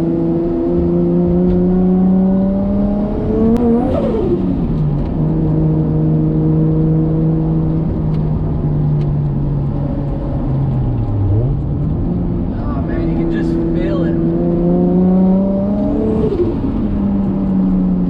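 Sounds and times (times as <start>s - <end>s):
turbocharged car engine revving: 0.0s - 8.0s, 10.4s - 18.0s.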